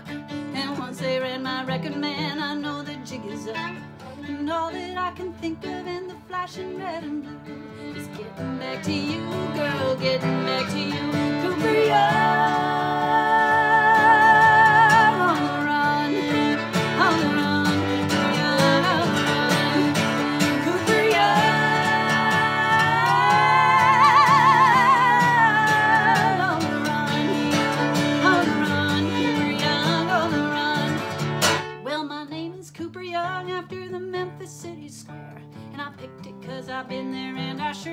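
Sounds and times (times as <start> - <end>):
fiddle playing: 0.0 - 31.7
acoustic guitar strumming: 0.0 - 32.0.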